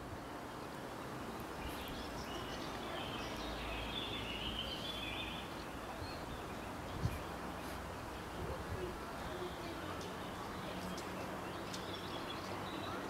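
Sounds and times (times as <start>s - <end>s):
background hiss: 0.0s - 13.0s
small birds chirping: 0.4s - 13.0s.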